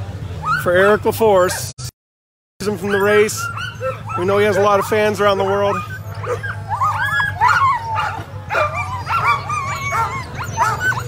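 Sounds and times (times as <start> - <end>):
sled dogs yelping and barking: 0.3 - 1.8, 2.6 - 11.0.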